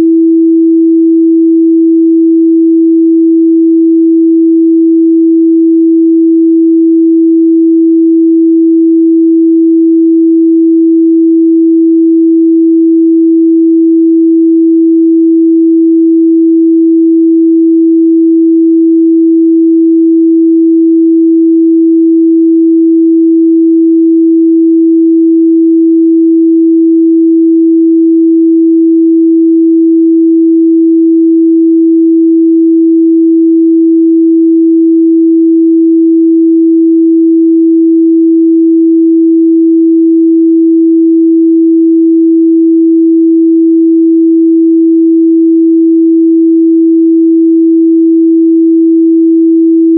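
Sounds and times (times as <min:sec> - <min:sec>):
sine-wave test tone: 0:00.0 - 0:49.9.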